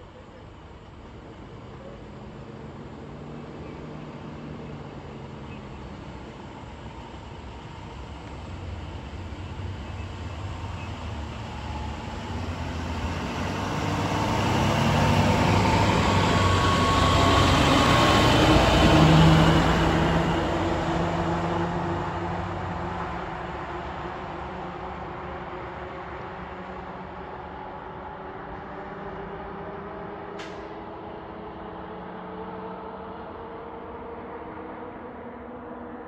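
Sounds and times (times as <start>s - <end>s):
fire trucks driving past: 0.0s - 36.0s.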